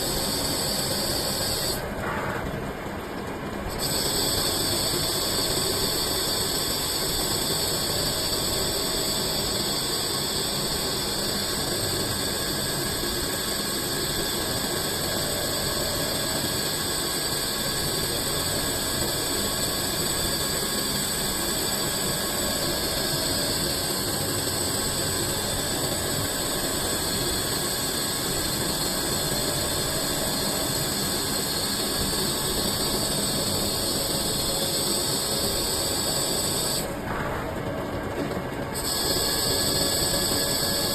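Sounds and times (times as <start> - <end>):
high steady whines: 0.0 - 40.9
lathe machining noise: 0.0 - 40.9.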